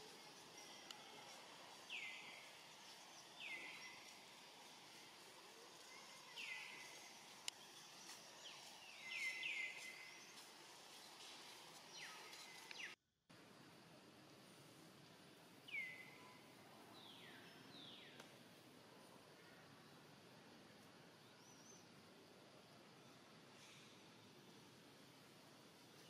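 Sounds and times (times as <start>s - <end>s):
faint background hiss: 0.0s - 26.0s.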